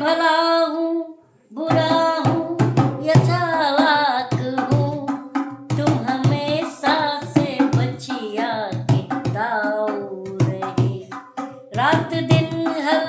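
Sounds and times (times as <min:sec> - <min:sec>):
person singing: 0:00.0 - 0:13.0
hand drum beat: 0:01.7 - 0:13.0.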